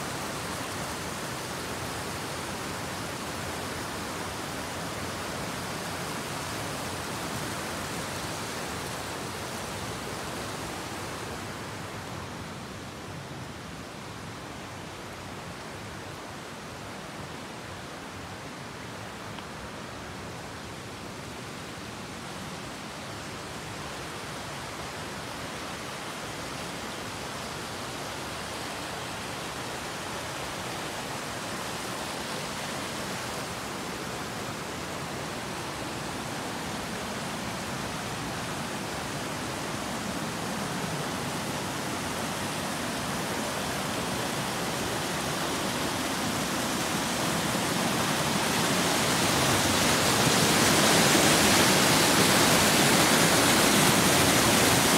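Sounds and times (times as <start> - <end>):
stream cascading over rocks: 0.0 - 54.9.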